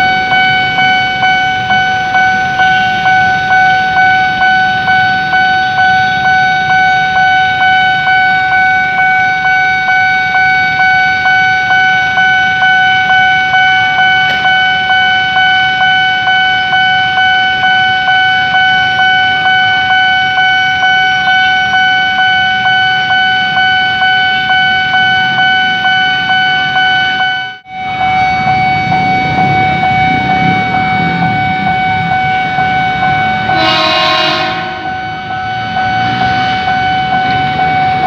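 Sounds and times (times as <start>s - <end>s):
level crossing warning bell: 0.0s - 38.0s
train approaching rumble: 0.0s - 38.0s.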